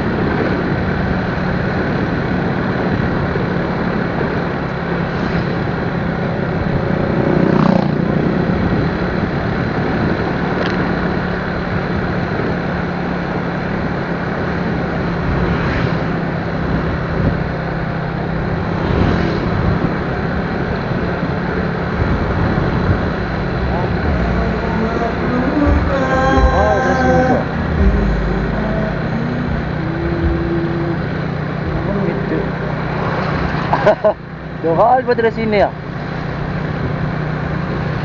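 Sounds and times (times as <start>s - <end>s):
motorcycle engine hum: 0.0s - 38.0s
passing traffic: 0.0s - 38.0s
wind and road noise: 0.0s - 38.0s.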